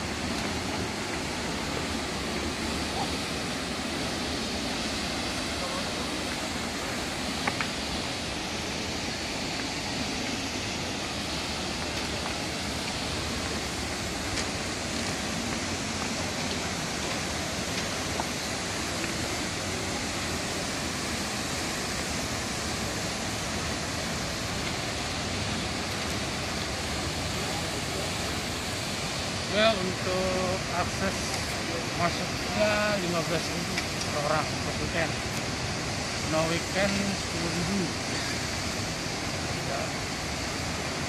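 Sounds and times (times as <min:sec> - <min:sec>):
waterfall rushing into pool: 0:00.0 - 0:41.0.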